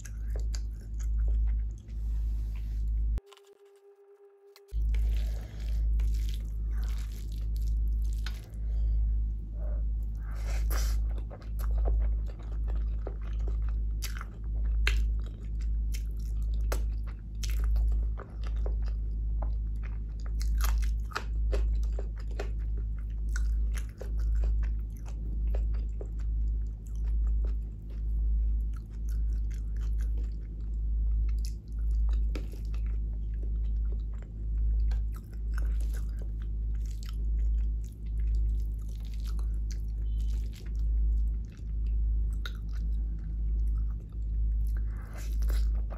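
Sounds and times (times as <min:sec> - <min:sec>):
person chewing food: 0:00.0 - 0:03.8, 0:04.6 - 0:08.8, 0:09.6 - 0:45.9.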